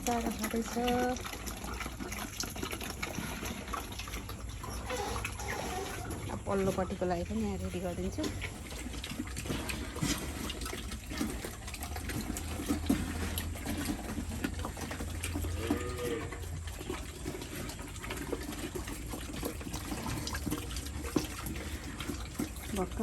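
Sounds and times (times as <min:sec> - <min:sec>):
pigs slurping and chomping: 0:00.0 - 0:23.0.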